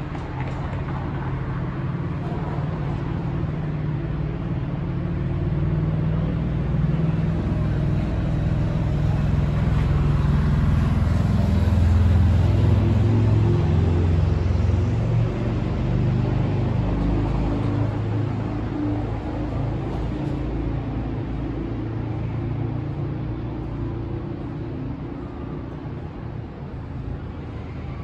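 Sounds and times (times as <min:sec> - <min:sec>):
city street traffic: 0:00.0 - 0:28.0
vehicle engine humming: 0:00.0 - 0:28.0.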